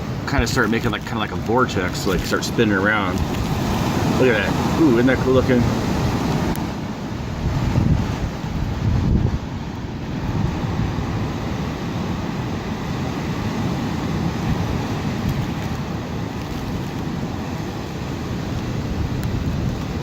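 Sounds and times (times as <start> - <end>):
strong wind blowing: 0.0 - 20.0.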